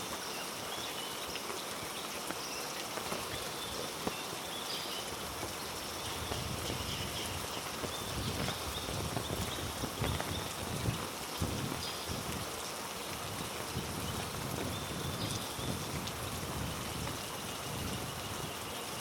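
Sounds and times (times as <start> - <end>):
heavy rain on foliage: 0.0 - 19.0.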